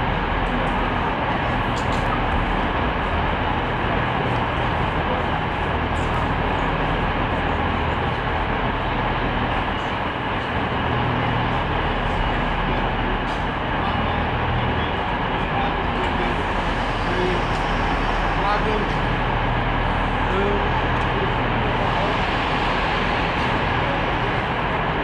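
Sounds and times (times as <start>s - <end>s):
train running: 0.0s - 25.0s.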